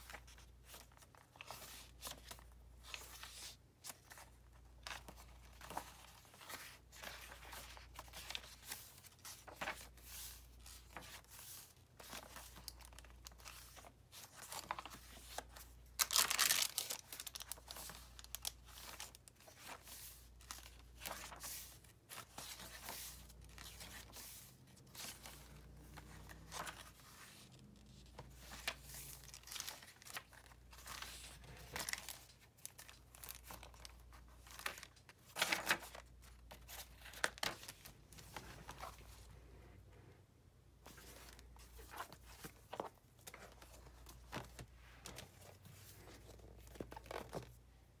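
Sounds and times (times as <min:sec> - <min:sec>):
paper pages turning: 0:00.0 - 0:39.3, 0:40.8 - 0:47.6.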